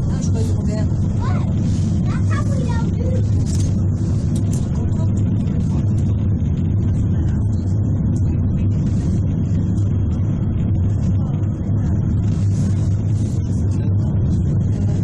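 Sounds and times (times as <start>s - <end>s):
funicular carriage rumbling on track: 0.0s - 15.0s.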